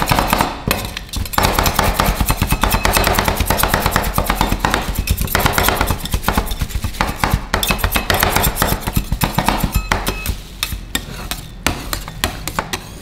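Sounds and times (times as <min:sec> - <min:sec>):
metal spatulas chopping on steel plate: 0:00.0 - 0:13.0.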